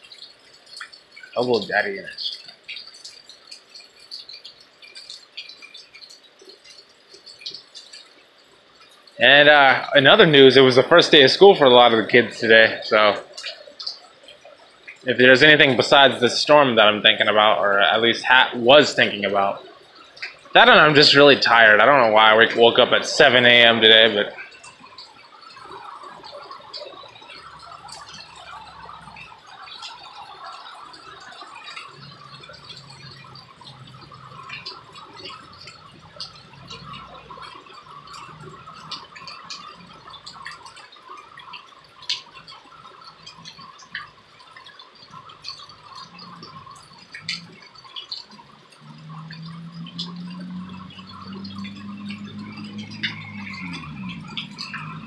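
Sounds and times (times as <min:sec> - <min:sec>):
light rain dripping: 0:00.0 - 0:55.0.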